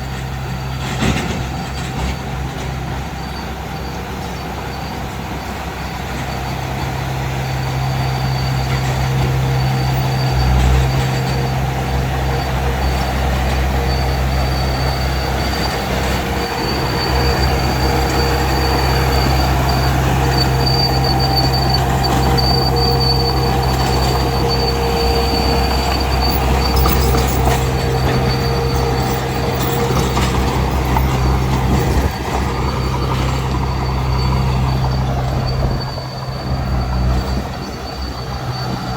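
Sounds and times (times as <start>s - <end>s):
diesel engine under load: 0.0s - 38.9s
high whine and metallic squeal: 0.0s - 38.9s.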